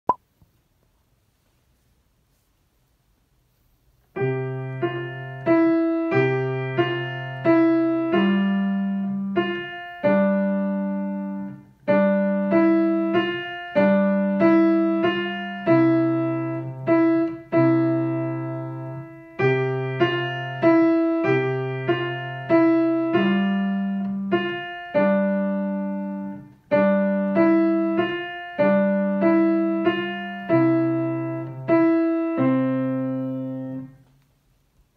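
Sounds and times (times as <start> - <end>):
piano waltz: 4.1 - 34.0.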